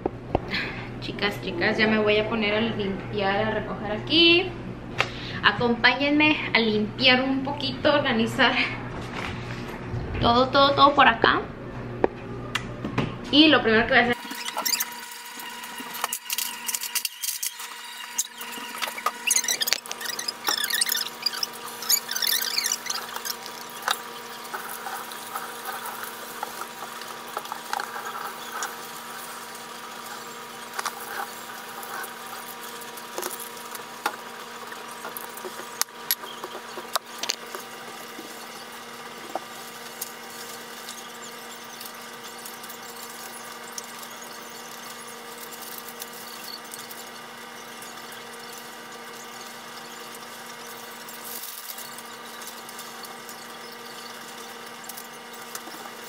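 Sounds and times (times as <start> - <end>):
steady high whine: 0.0 - 56.0.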